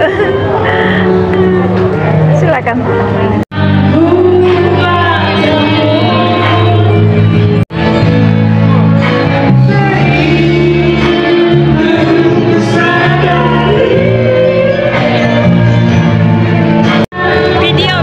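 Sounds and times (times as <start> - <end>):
music with singing: 0.0 - 18.0.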